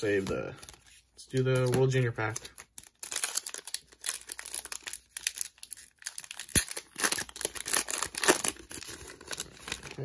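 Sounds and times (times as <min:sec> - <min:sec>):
foil wrapper crinkling: 0:01.4 - 0:10.0.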